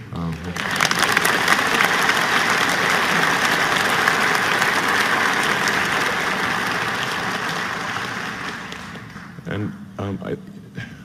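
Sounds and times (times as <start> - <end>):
audience applauding: 0.2 - 9.5.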